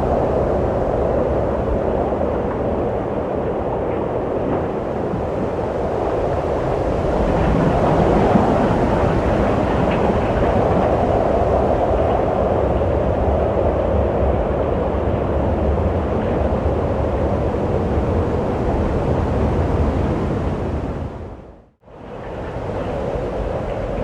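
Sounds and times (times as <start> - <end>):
wind blowing: 0.0 - 24.0.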